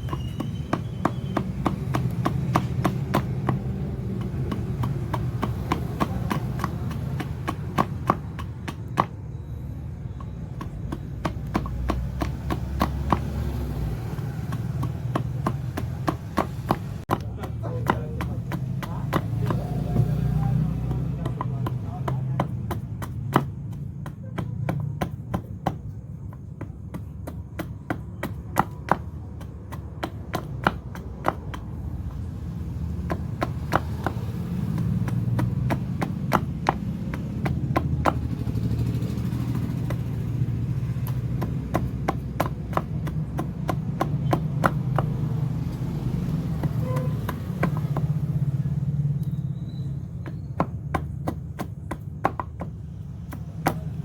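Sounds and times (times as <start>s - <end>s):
chopping strikes on wood: 0.0s - 54.0s.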